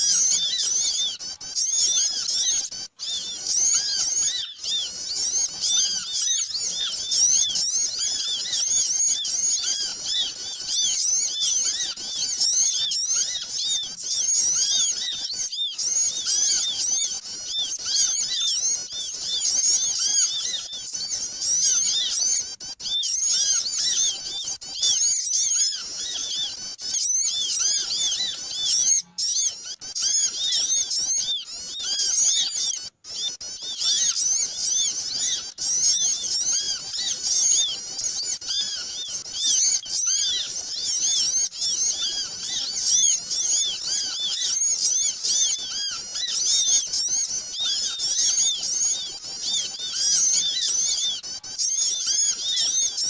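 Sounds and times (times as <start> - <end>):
flock of small birds chirping: 0.0 - 53.0.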